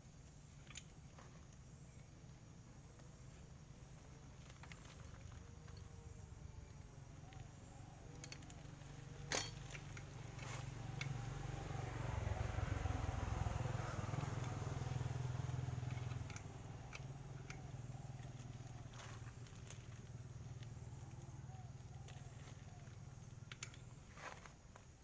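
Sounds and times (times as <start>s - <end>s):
engine humming: 0.0s - 24.4s.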